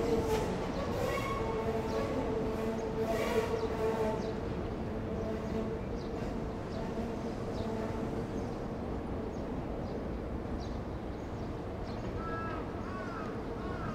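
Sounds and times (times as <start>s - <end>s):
distant train on a bridge: 0.0s - 13.9s.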